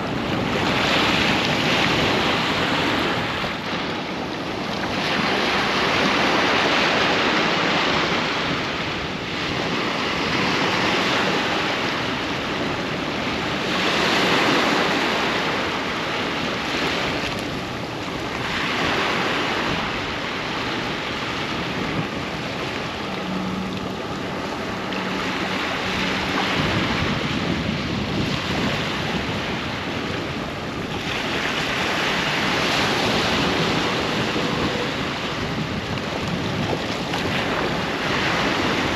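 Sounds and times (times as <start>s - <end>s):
ocean waves breaking on a beach: 0.0s - 38.9s.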